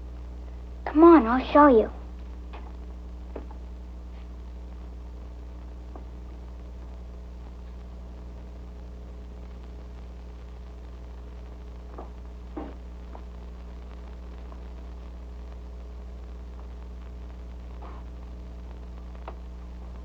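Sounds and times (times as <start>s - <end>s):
mains hum and hiss: 0.0s - 20.0s.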